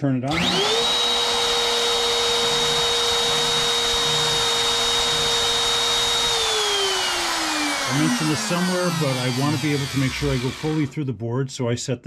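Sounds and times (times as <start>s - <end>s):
router motor high whine: 0.3s - 11.0s
motor spinning down: 0.3s - 11.1s.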